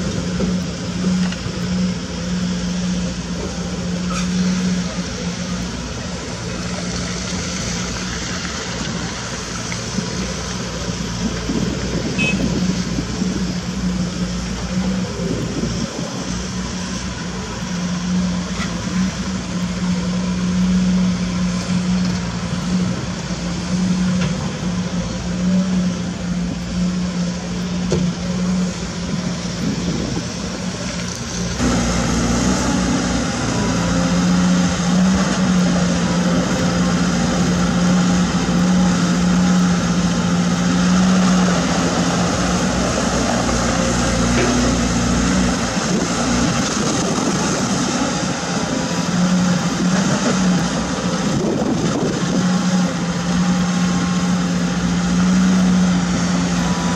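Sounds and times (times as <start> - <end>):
excavator diesel engine: 0.0 - 56.9
hydraulics working: 0.0 - 56.9.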